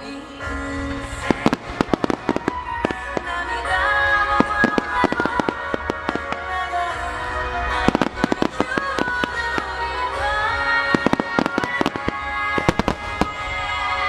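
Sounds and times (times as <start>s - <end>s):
music: 0.0s - 14.0s
fireworks bursting: 0.8s - 14.0s.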